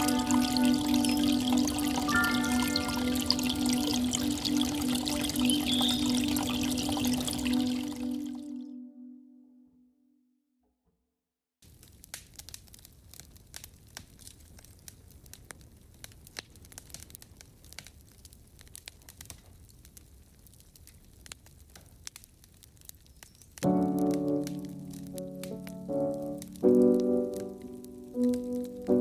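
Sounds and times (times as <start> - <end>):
campfire crackling and popping: 0.0 - 8.5, 11.6 - 29.0.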